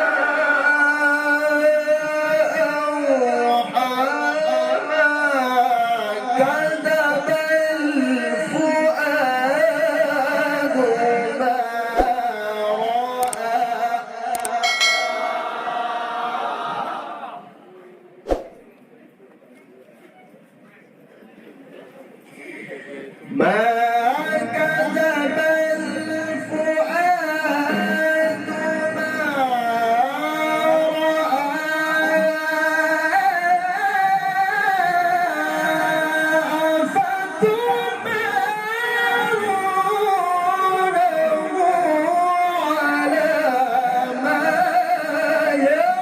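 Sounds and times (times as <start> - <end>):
man chanting recitation: 0.0 - 14.7, 22.7 - 46.0.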